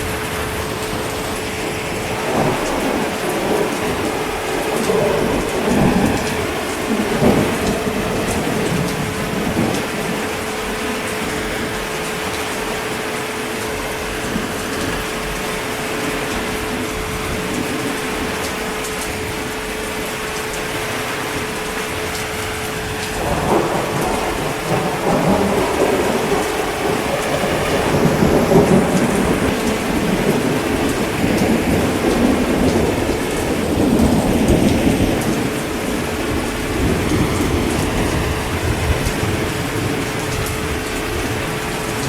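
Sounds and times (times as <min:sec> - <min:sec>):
heavy rain: 0:00.0 - 0:42.0
rolling thunder: 0:00.0 - 0:42.0.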